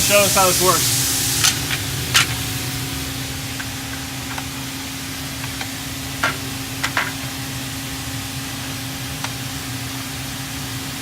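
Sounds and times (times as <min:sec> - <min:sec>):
steady shop hum: 0:00.0 - 0:11.0.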